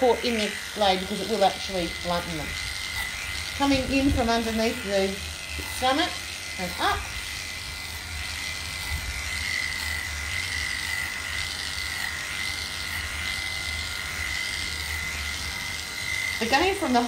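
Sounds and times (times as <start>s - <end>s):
electric clippers whining: 0.0s - 17.0s.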